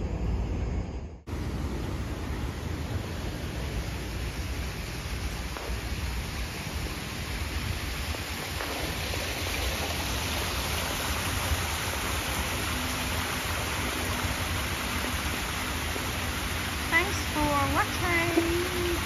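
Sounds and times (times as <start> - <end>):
small waterfall splashing: 1.8 - 19.0.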